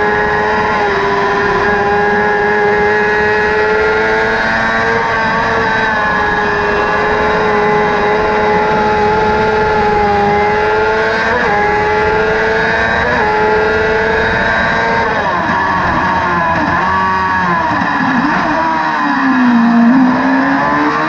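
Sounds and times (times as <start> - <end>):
engine running at high revs: 0.0 - 21.0.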